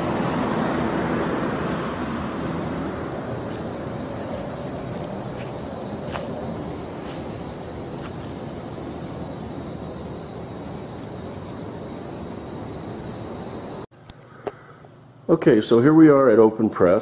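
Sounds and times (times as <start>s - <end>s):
distant traffic rumble: 0.0s - 13.9s
high-pitched drone: 0.0s - 13.9s.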